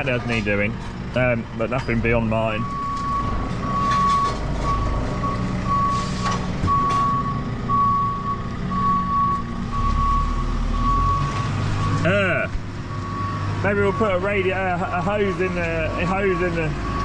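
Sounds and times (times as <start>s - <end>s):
reversing alarm beeping: 2.2s - 14.6s, 15.8s - 17.0s.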